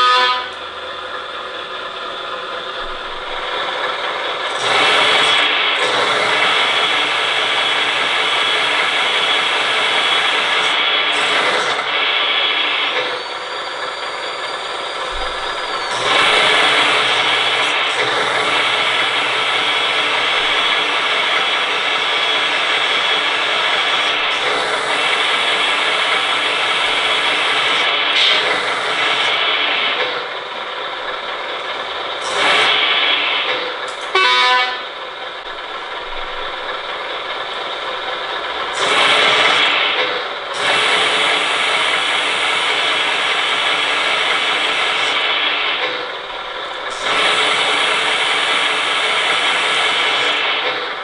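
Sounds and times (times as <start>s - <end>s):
hydraulic pump whining: 0.0s - 51.0s.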